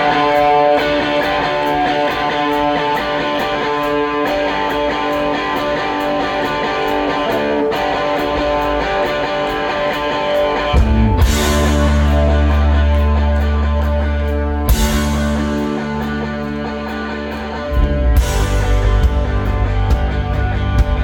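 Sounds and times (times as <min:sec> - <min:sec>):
electric guitar ringing chords: 0:00.0 - 0:21.0
rock band playing: 0:00.0 - 0:21.0.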